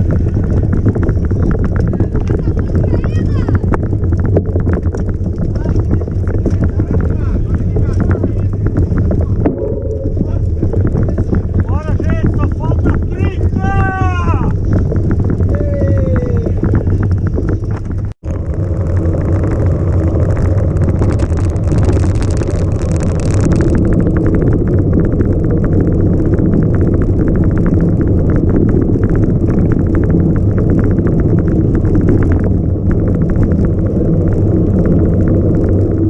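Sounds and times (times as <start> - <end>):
motor vehicle rumble: 0.0 - 36.0.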